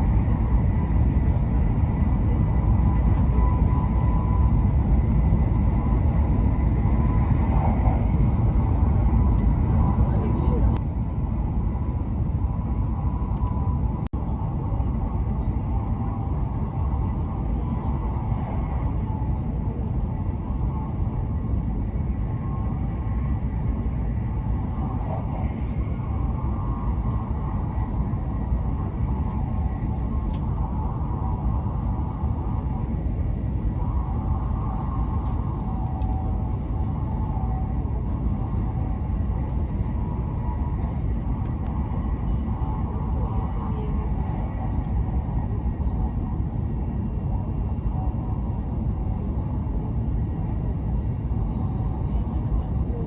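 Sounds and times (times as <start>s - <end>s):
train rumble from inside cabin: 0.0s - 53.0s.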